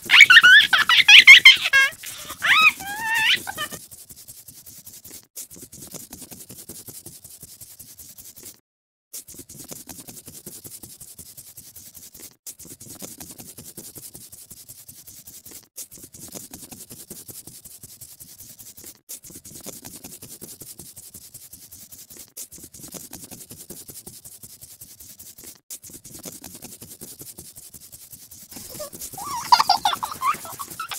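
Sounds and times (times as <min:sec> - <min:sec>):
scratchy colouring on paper: 0:00.0 - 0:08.6, 0:09.2 - 0:30.9.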